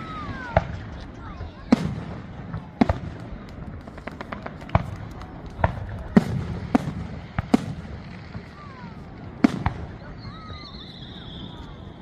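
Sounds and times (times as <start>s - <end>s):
fireworks bangs: 0.0s - 12.0s
fireworks crackles: 0.0s - 12.0s.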